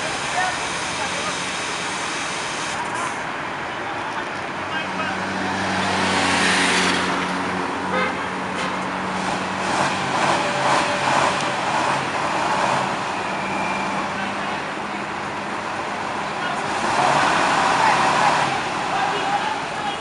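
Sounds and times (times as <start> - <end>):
heavy vehicle engines running: 0.0 - 20.0
road noise: 0.0 - 20.0.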